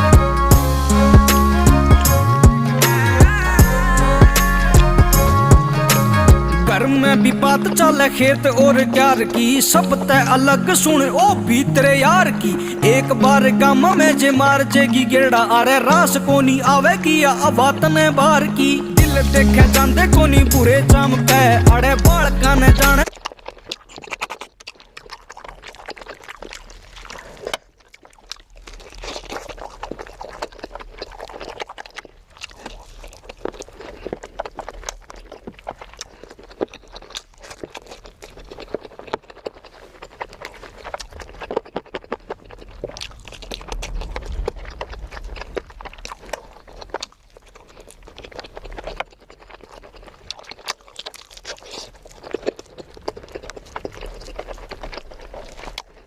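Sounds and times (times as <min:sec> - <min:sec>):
wet chewing and lip-smacking: 0:00.0 - 0:56.0.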